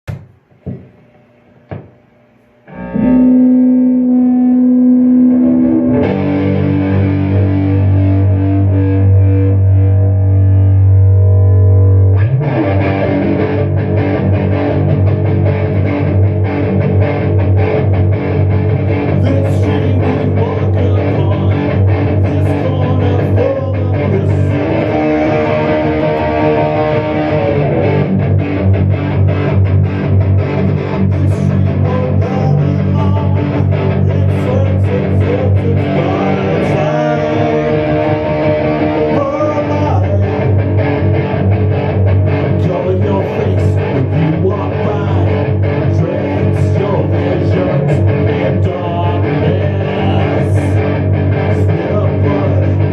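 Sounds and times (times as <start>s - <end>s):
rock band playing: 2.7s - 52.9s.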